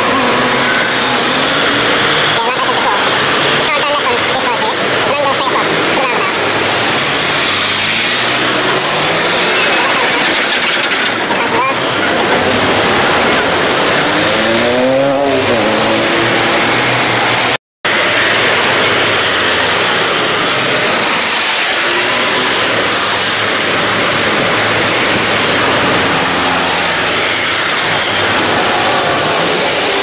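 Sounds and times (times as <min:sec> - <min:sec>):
busy road traffic: 0:00.0 - 0:30.0
vehicle engine rising and falling: 0:00.0 - 0:30.0.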